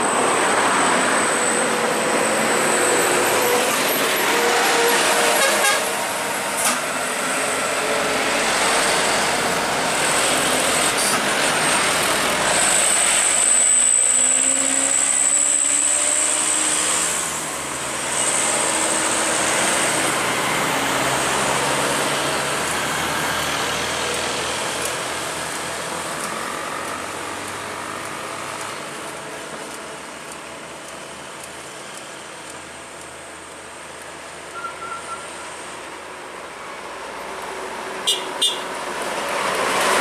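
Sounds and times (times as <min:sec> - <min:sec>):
diesel truck passing by: 0:00.0 - 0:40.0.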